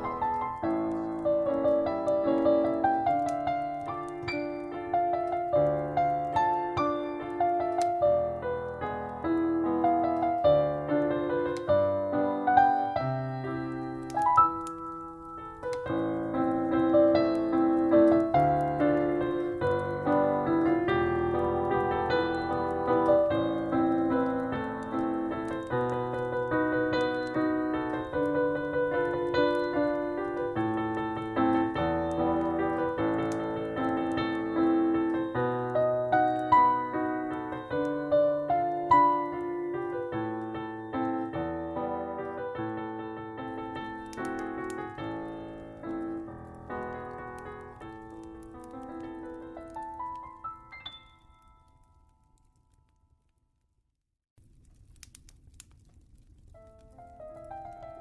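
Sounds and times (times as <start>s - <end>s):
solo piano: 0.0s - 53.1s, 55.0s - 58.0s
fireplace crackling: 0.0s - 58.0s.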